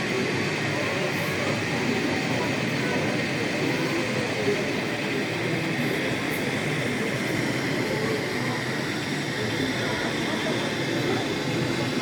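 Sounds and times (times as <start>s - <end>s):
hubbub of many people talking: 0.0s - 12.0s.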